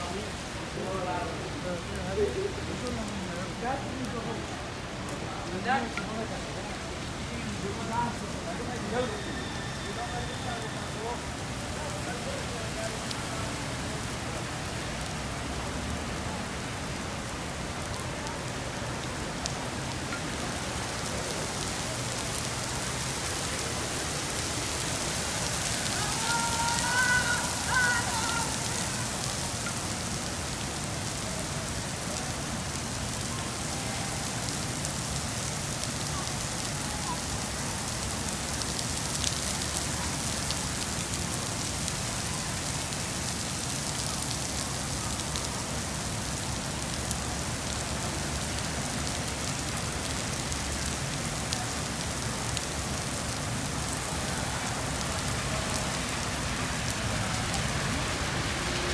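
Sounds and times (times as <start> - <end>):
heavy rain on paving: 0.0 - 58.9.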